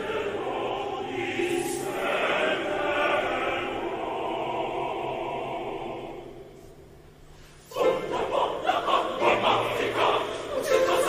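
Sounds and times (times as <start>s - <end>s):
mixed choir singing: 0.0s - 6.8s, 7.7s - 11.0s.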